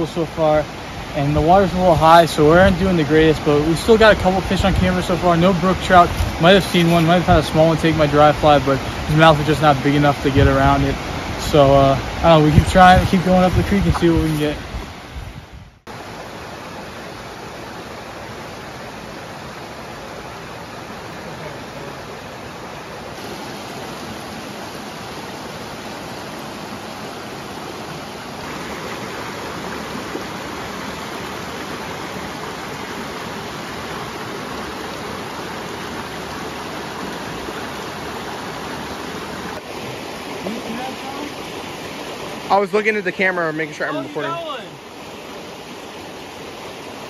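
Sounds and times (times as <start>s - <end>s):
creek rushing over rocks: 0.0s - 47.0s.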